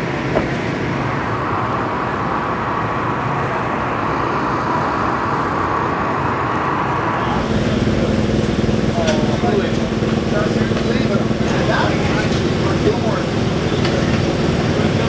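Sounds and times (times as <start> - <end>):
steady engine noise: 0.0 - 15.0.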